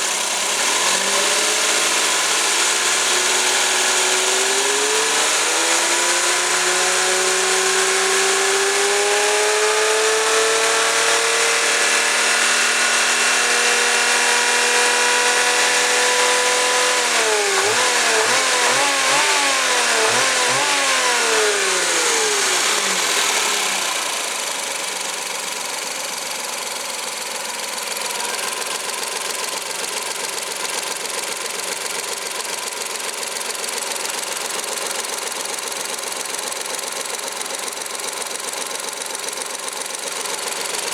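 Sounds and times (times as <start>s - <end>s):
engine revving and idling: 0.0s - 40.9s.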